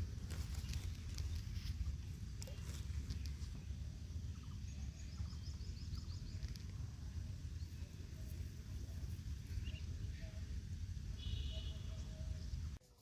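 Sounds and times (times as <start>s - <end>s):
steady low rumble: 0.0s - 12.8s
bird chirping: 0.3s - 12.8s.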